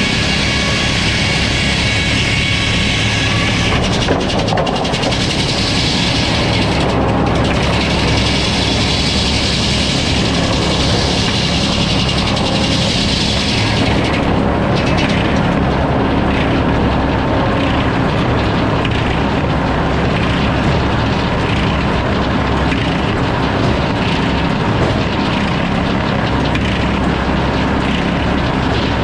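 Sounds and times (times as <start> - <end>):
sawmill saw cutting log: 0.0 - 29.0.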